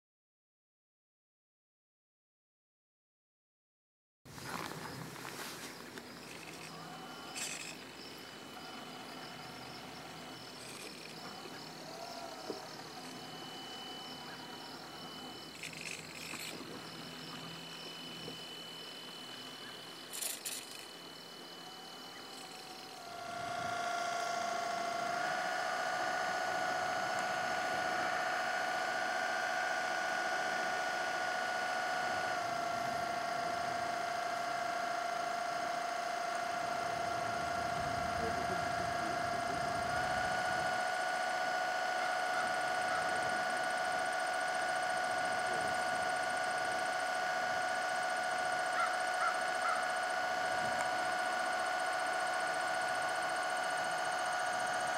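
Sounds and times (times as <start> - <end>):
electric motor whining: 4.3 - 54.9.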